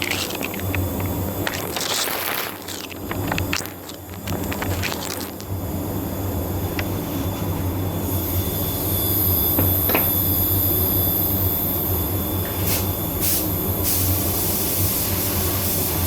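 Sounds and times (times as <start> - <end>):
machinery hum: 0.0 - 13.8.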